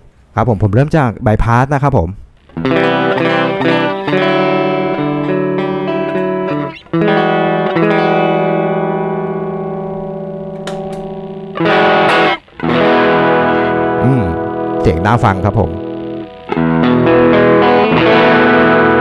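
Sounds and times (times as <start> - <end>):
overdriven guitar strums: 2.4 - 19.0
clean electric guitar chords: 2.5 - 19.0.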